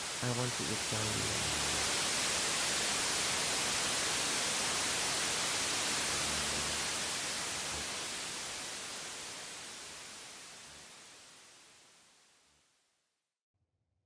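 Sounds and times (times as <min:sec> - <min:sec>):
static hiss: 0:00.0 - 0:12.9.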